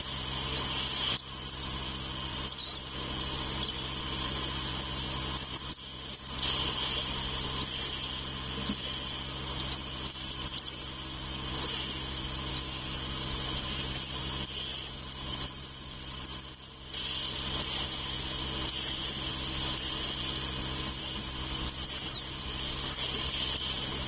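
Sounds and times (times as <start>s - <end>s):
high insect-like drone: 0.0s - 24.0s
low steady hum: 0.0s - 24.0s
short high-pitched chirps: 0.5s - 16.9s, 17.5s - 23.8s.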